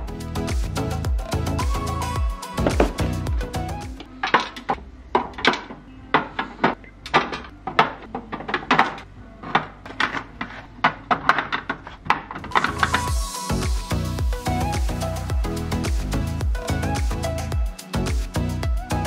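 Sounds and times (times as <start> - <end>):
faint background music: 0.0 - 19.0.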